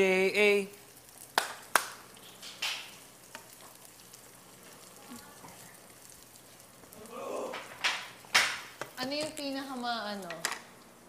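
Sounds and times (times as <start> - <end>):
food sizzling in a pan: 0.0 - 11.0
spatula stirring: 0.9 - 10.4.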